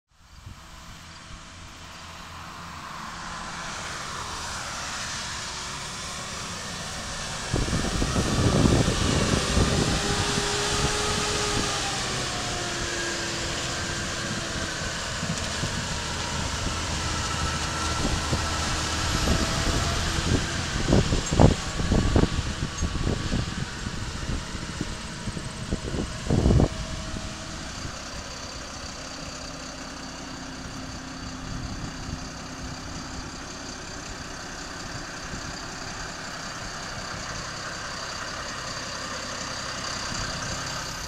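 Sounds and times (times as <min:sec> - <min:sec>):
tractor diesel engine running: 0:00.2 - 0:41.0.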